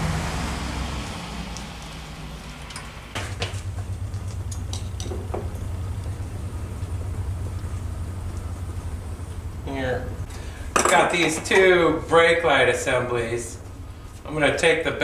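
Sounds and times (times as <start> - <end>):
low machine rumble: 0.0 - 15.0.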